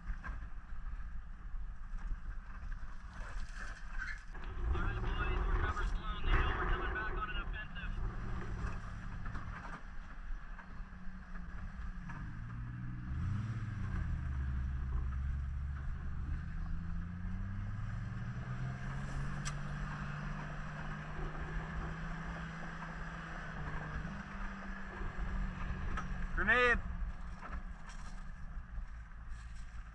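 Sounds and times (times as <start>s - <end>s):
low engine drone: 4.3s - 29.9s.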